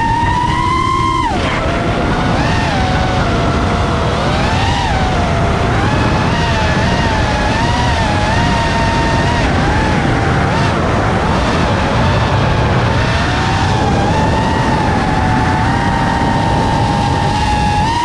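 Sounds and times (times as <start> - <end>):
quadcopter motors whining: 0.0 - 18.0
wind rushing on microphone: 0.0 - 18.0.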